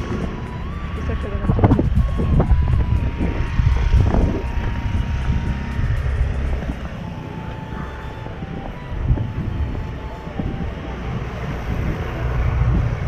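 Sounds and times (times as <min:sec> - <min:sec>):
motor scooter passing: 0:00.0 - 0:13.0
street traffic rumble: 0:00.0 - 0:13.0.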